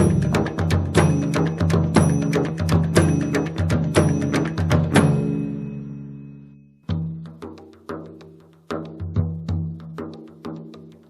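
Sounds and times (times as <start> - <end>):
drum-led instrumental music: 0.0 - 5.8, 6.8 - 11.0.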